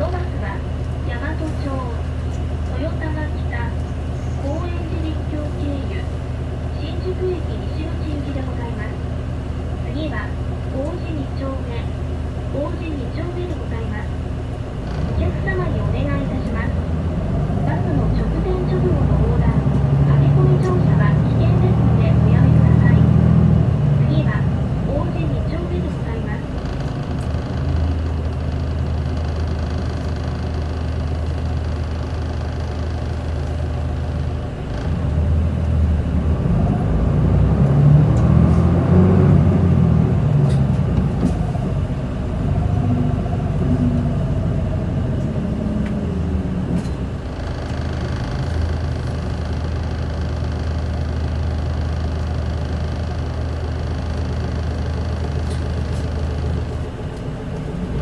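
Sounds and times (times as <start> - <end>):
bus diesel engine hum: 0.0 - 58.0
engine whine: 0.0 - 58.0.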